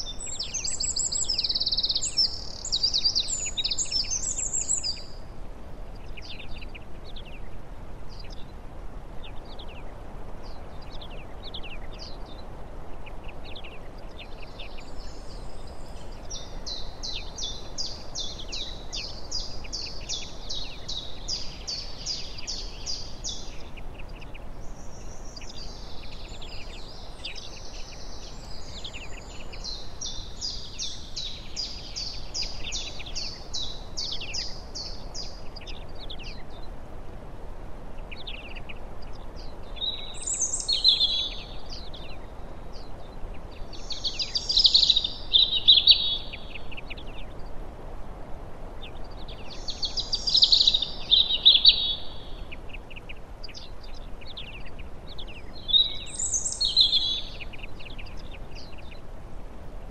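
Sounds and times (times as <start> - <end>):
low background noise: 0.0 - 59.9
songbirds chirping: 0.0 - 59.9.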